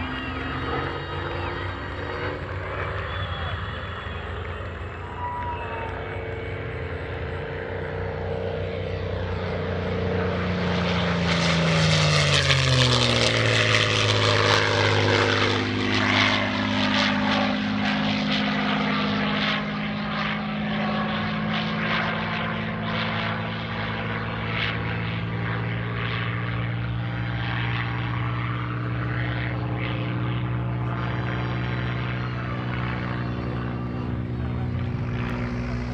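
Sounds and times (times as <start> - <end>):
propeller plane passing overhead: 0.0 - 35.9.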